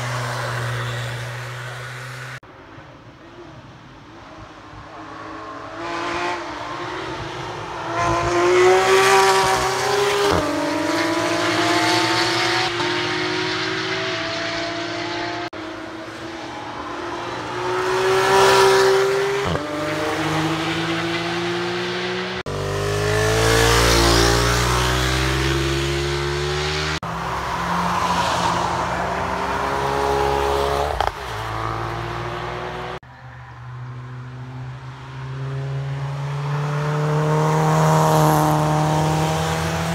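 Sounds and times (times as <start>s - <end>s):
sports car accelerating past: 4.9s - 33.0s, 33.7s - 39.9s.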